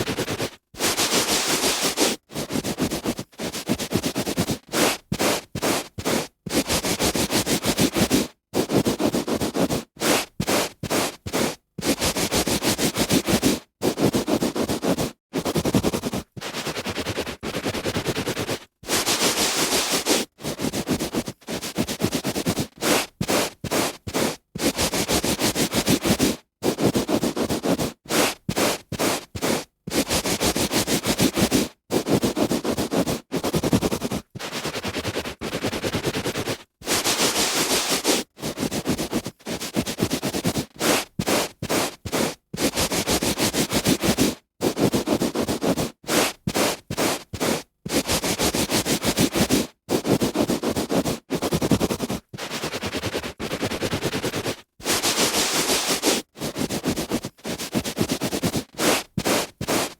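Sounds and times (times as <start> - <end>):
hand rubbing on carpet: 0.0 - 59.9.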